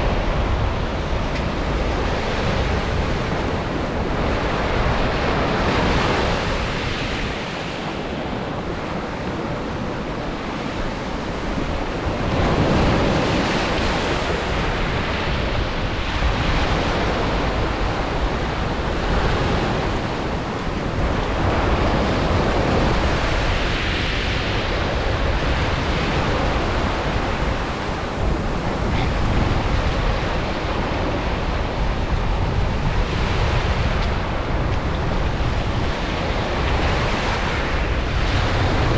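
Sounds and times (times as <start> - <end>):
surf breaking on a beach: 0.0 - 38.9
wind rumbling on microphone: 0.0 - 38.9.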